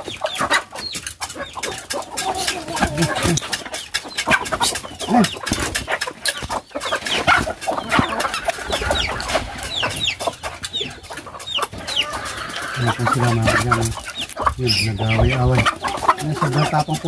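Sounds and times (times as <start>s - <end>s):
chickens clucking: 0.0s - 17.0s
chicks cheeping: 0.0s - 17.0s.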